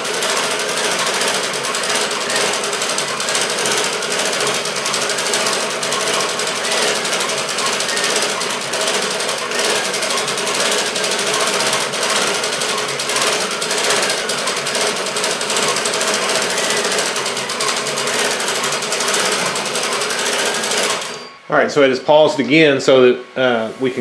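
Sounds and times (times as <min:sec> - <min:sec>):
sewing machine needle rattle: 0:00.0 - 0:21.2.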